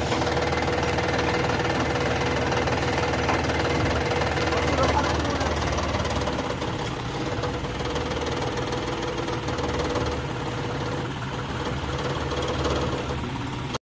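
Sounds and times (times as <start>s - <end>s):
tractor diesel engine idling: 0.0s - 13.8s.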